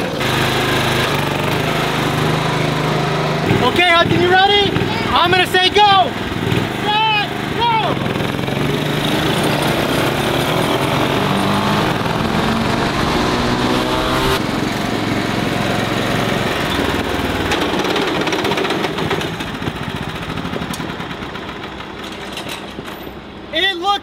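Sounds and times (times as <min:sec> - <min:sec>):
small tractor engines racing: 0:00.0 - 0:23.5.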